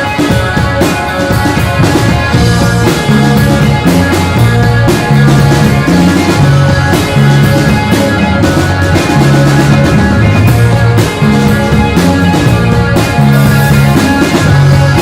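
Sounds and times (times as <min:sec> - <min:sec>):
drum kit: 0:00.0 - 0:15.0
electric bass: 0:00.0 - 0:15.0
electric guitars: 0:00.0 - 0:15.0.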